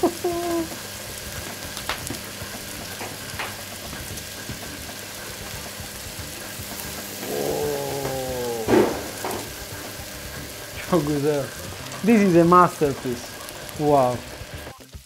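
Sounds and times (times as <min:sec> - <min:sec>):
meat sizzling over coals: 0:00.0 - 0:15.0
sharp crackles: 0:00.4 - 0:14.9.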